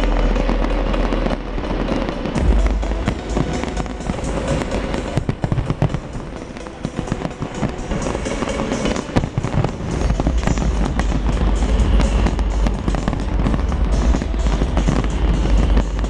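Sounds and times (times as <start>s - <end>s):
fireworks bangs and crackles: 0.0s - 16.0s
loud music: 0.0s - 16.0s.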